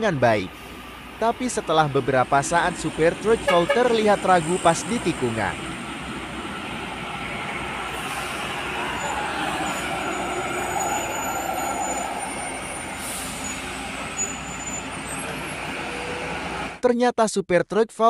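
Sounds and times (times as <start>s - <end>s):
diesel trucks rumbling: 0.0s - 16.8s.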